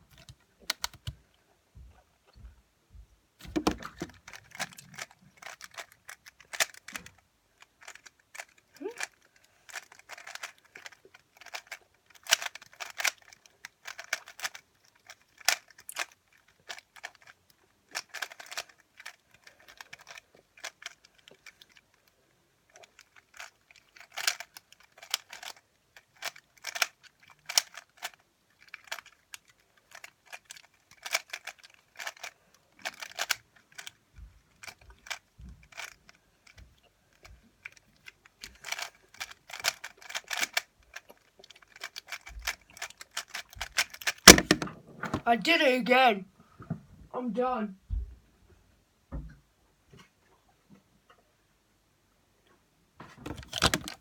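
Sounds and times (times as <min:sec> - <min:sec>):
puzzle cube plastic clicking: 0:00.0 - 0:01.2, 0:03.4 - 0:34.0, 0:34.6 - 0:45.6, 0:53.2 - 0:54.0.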